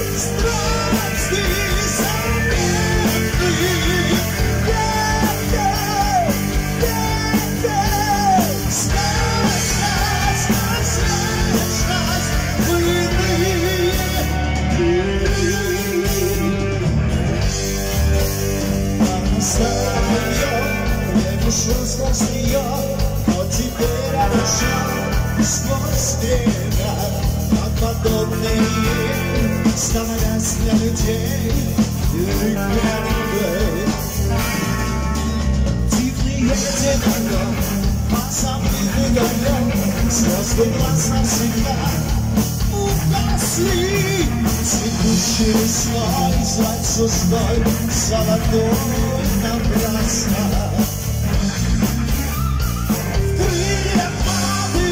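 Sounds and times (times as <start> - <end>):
man singing: 0.0 - 17.6, 18.2 - 51.9, 53.1 - 54.9
heavy metal band playing: 0.0 - 54.9.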